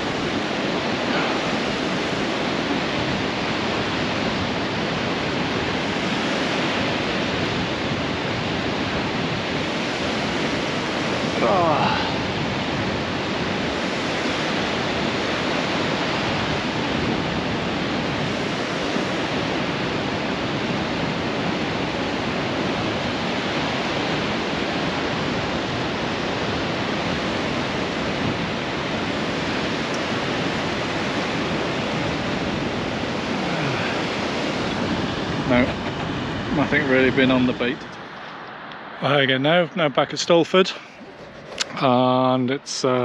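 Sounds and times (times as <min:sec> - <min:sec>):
small waves breaking: 0:00.0 - 0:39.2
wind rushing: 0:00.0 - 0:43.0.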